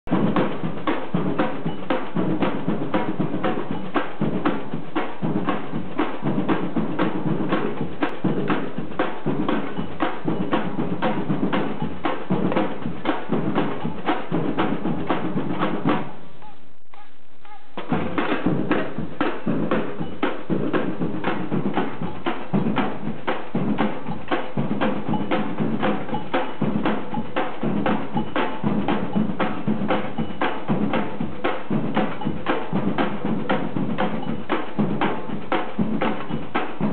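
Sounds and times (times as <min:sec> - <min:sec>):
fast rhythmic banging: 0:00.0 - 0:36.9.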